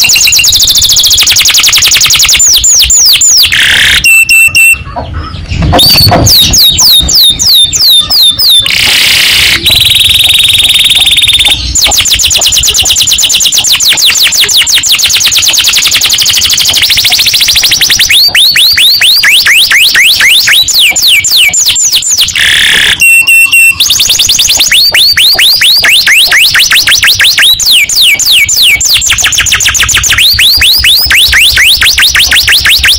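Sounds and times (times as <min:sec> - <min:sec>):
canary singing in trills: 0:00.0 - 0:32.9.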